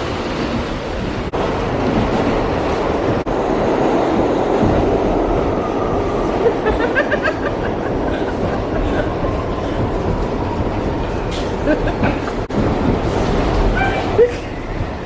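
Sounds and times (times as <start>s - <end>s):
subway car rumbling on track: 0.0s - 15.0s.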